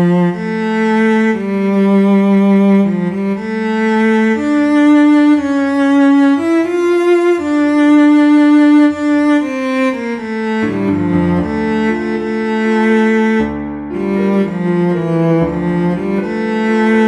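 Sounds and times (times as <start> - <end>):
cello playing slow sustained notes: 0.0 - 17.0
piano: 0.0 - 17.0.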